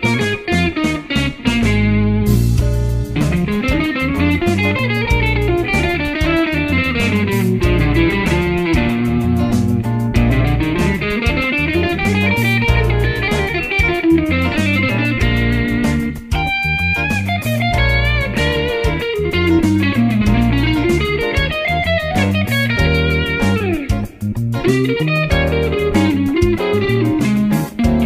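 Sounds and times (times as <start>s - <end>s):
bass and drums backing: 0.0s - 28.0s
electric guitar funk lines: 0.0s - 28.0s.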